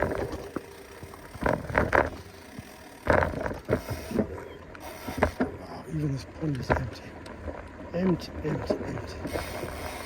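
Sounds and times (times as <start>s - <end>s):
mountain bike rattling over trail: 0.0s - 10.0s.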